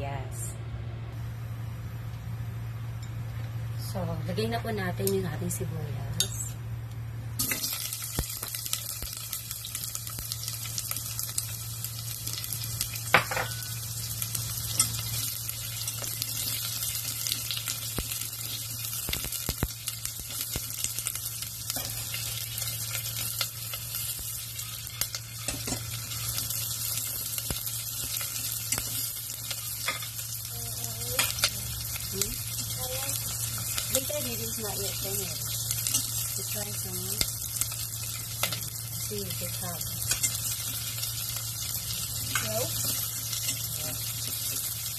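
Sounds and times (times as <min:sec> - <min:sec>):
steady low hum: 0:00.0 - 0:44.9
onion sizzling in hot oil: 0:07.2 - 0:44.9.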